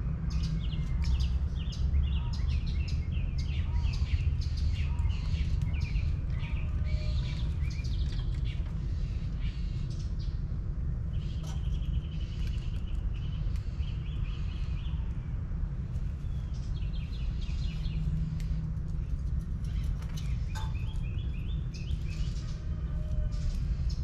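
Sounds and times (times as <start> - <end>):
low background rumble: 0.0 - 24.0
small birds chirping: 0.0 - 24.0.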